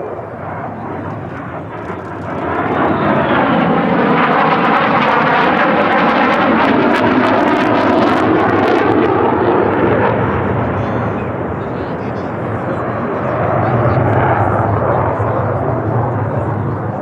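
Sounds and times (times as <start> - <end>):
jet engine crackling: 0.0 - 17.0
loud jet engine noise: 0.0 - 17.0.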